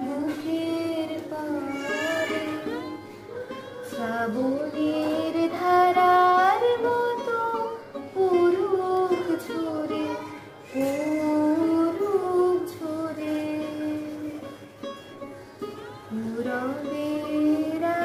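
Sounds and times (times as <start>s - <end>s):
girl singing slowly: 0.0s - 3.0s, 3.8s - 14.5s, 16.1s - 18.0s.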